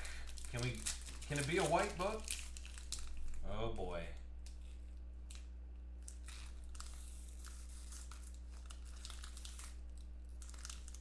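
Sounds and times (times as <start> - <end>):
foil wrapper tearing and crinkling: 0.0 - 3.5, 4.4 - 11.0.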